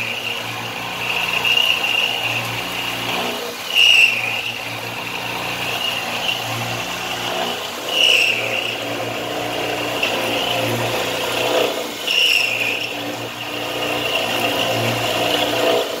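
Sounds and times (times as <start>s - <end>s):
milling machine spindle hum and whine: 0.0s - 16.0s.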